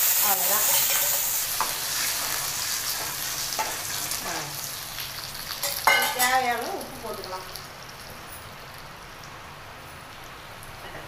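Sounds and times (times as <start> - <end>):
oil sizzling in a pan: 0.0 - 10.8.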